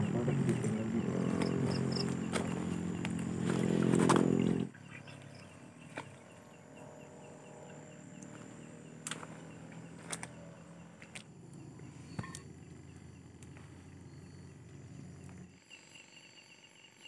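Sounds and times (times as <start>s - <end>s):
low steady hum: 0.0s - 16.9s
faint insect chirping: 0.0s - 17.0s.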